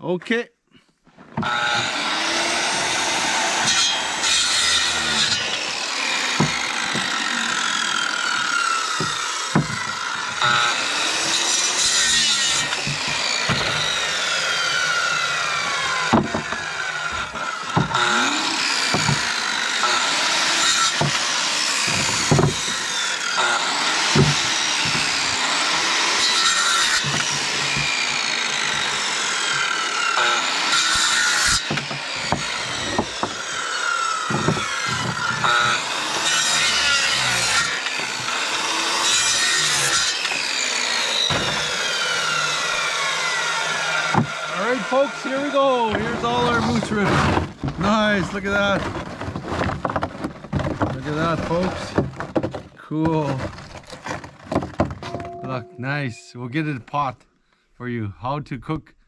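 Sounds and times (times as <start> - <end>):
circular saw cutting bone: 1.4 - 48.9, 50.9 - 52.1.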